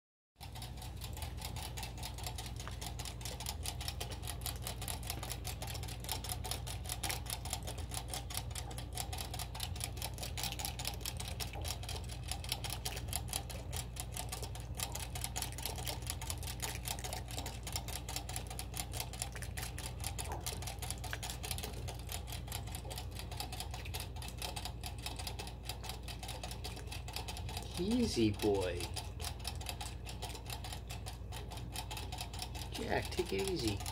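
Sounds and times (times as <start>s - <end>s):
rabbit gulping: 0.4s - 33.9s.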